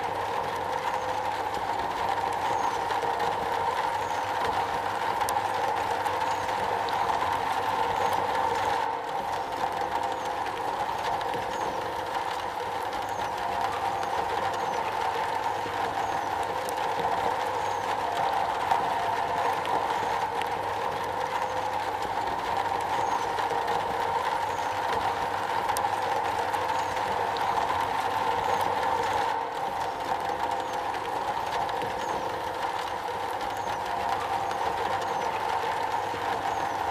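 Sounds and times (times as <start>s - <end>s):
rain on a metal roof: 0.0s - 36.9s.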